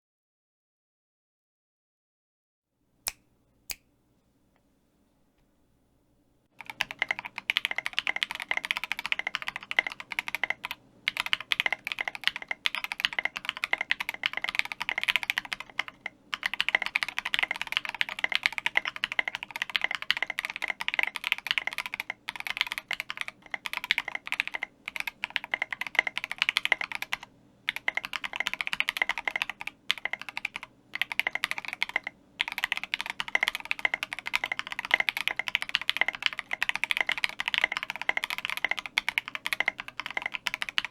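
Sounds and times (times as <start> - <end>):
mechanical keyboard typing: 6.6 - 40.9.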